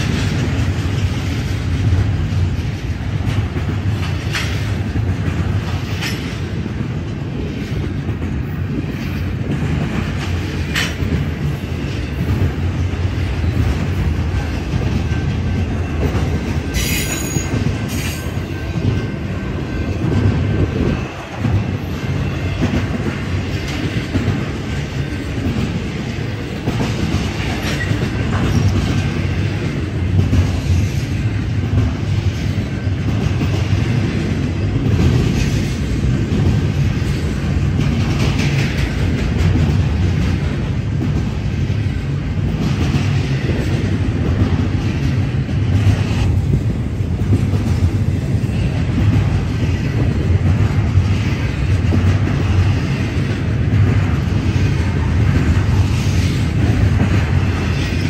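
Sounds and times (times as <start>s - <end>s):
rail joint clicks: 0.0s - 58.0s
steel wheels rumbling on rails: 0.0s - 58.0s.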